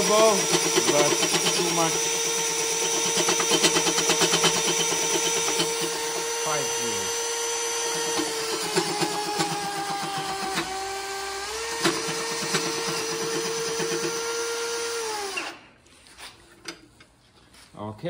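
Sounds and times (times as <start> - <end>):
cordless power drill running: 0.0 - 15.7.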